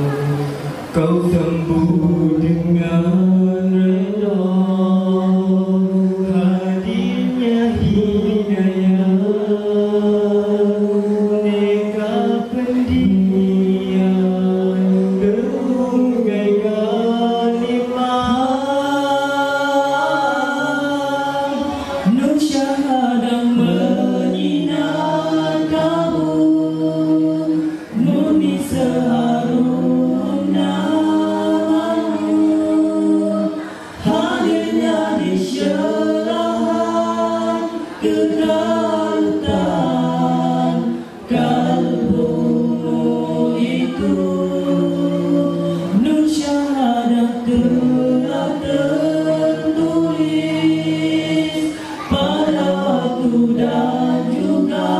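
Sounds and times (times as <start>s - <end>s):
men singing a cappella harmony: 0.0s - 54.9s.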